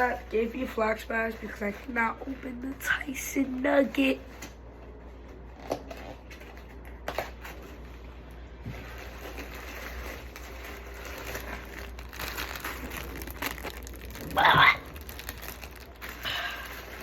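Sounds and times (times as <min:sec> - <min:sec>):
plastic packaging crinkling: 0:00.0 - 0:04.7, 0:05.4 - 0:17.0.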